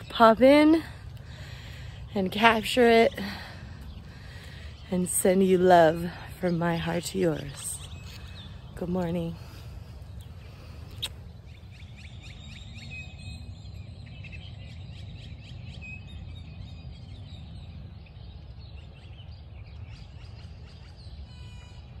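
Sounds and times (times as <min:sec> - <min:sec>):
low outdoor rumble: 0:00.0 - 0:21.0
small birds chirping: 0:00.0 - 0:21.7.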